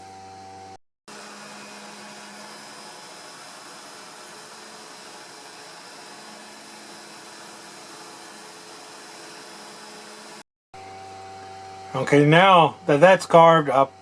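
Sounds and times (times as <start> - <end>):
router whirring while carving wood: 0.0 - 11.9.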